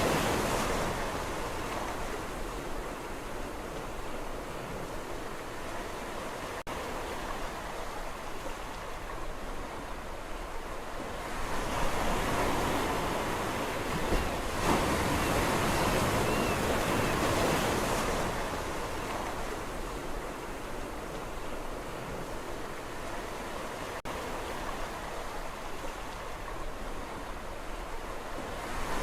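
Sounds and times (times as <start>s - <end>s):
sea waves washing on shore: 0.0s - 29.0s.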